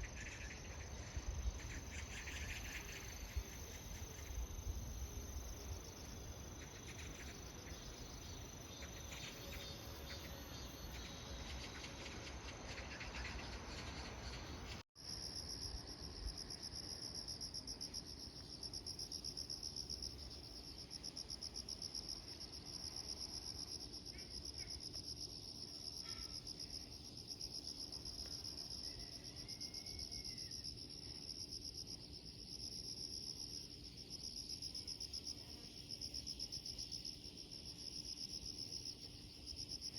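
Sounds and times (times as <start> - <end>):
insects chirring in a high trill: 0.0 - 39.9.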